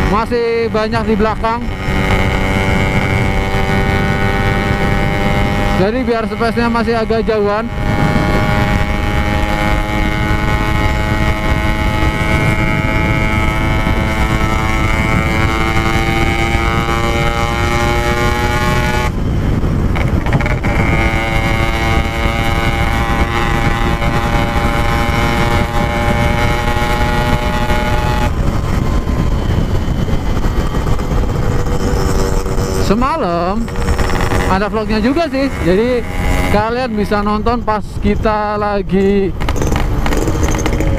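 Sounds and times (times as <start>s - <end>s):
two-stroke motorcycle engine: 0.0s - 40.9s
wind on microphone: 0.0s - 40.9s.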